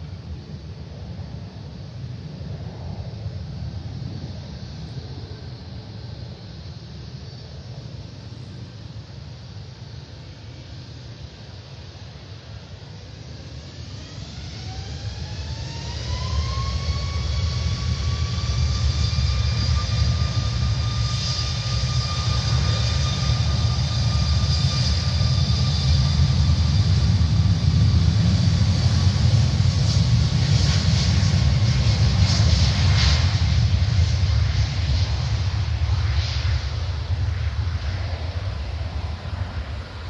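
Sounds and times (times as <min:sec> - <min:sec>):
jet engine whine: 0:00.0 - 0:40.0
loud low jet rumble: 0:00.0 - 0:40.0.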